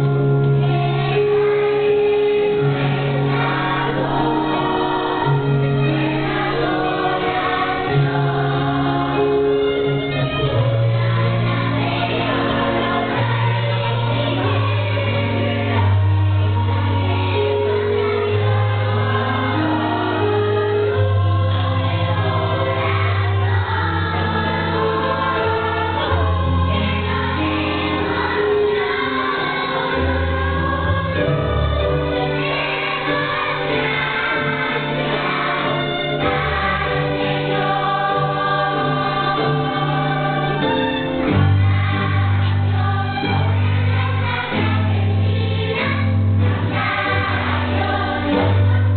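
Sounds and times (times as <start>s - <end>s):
choir singing: 0.0s - 48.9s.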